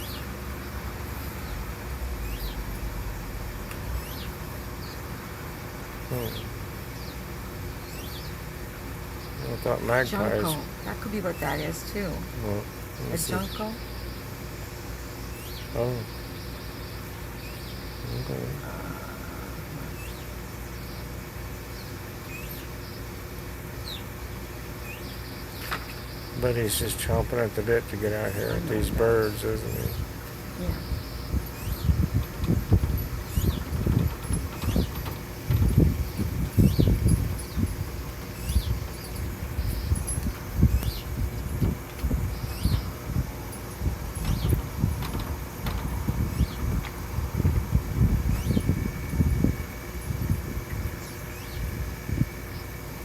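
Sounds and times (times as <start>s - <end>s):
songbirds chirping: 0.0s - 53.0s
steady low hum: 0.0s - 53.0s.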